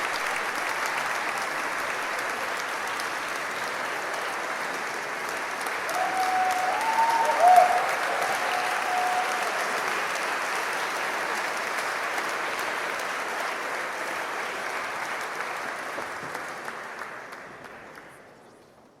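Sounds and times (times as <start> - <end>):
audience applause: 0.0 - 18.5.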